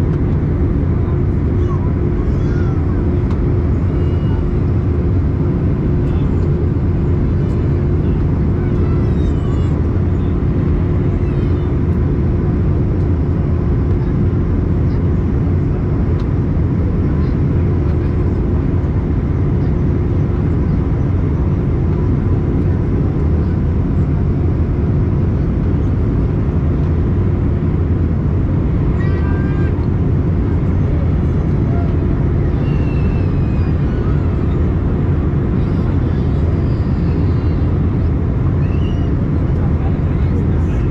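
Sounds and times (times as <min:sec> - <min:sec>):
constant low hum: 0:00.0 - 0:40.9
jet engines and airflow drone: 0:00.0 - 0:40.9.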